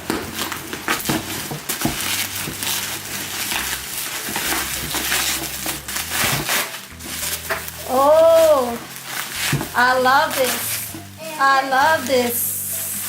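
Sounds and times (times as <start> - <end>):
packing wrap rustling and crinkling: 0.0 - 13.0.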